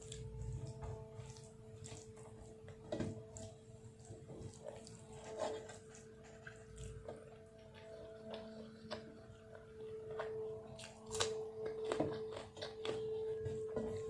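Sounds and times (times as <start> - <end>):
faint steady hum: 0.0 - 14.0
wet chewing and mouth-smacking: 0.0 - 14.0.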